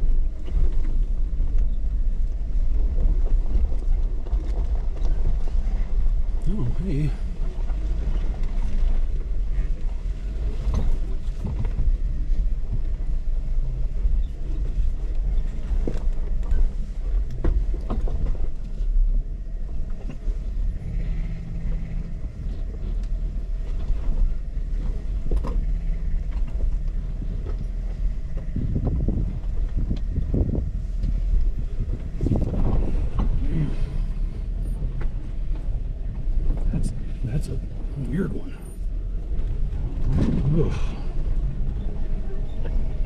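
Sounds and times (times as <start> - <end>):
vehicle engine running slowly: 0.0 - 43.0.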